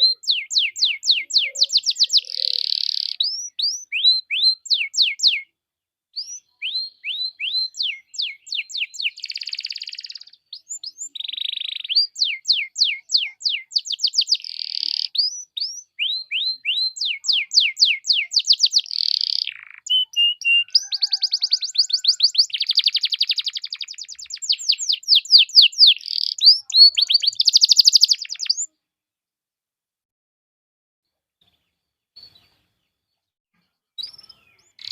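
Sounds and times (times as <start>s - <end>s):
canary singing: 0.0s - 5.5s, 6.2s - 28.7s, 34.0s - 34.9s.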